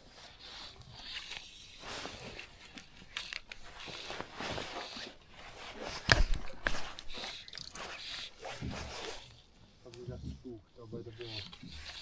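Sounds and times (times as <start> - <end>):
rustling and scraping handling noise: 0.0 - 12.0.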